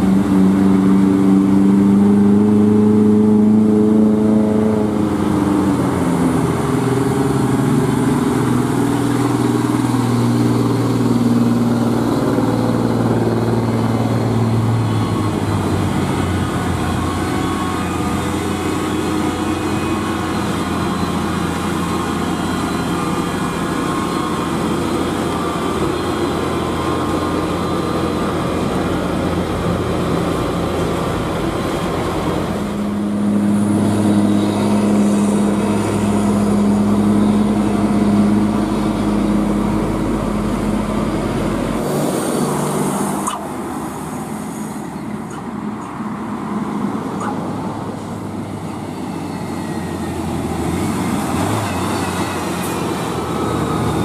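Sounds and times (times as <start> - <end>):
heavy diesel trucks passing: 0.0 - 54.0
road noise: 0.0 - 54.0.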